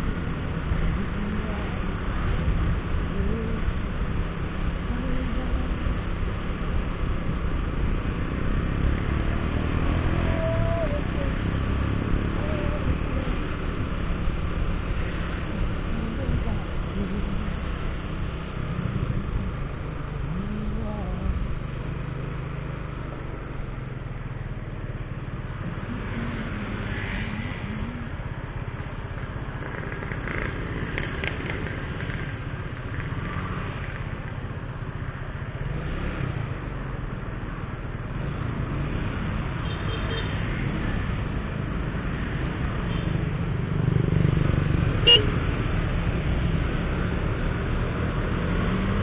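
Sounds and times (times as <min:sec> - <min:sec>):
motorcycle engine and road rumble: 0:00.0 - 0:49.0.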